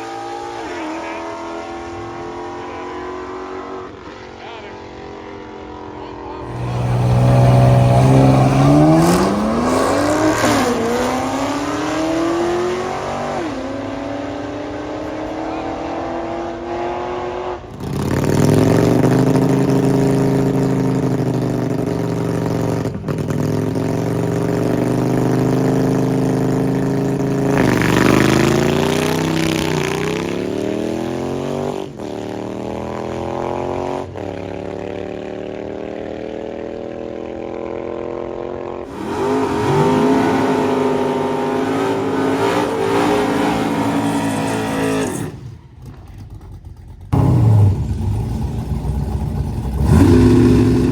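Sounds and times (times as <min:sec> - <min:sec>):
drag racing car engines revving: 0:00.0 - 0:50.9.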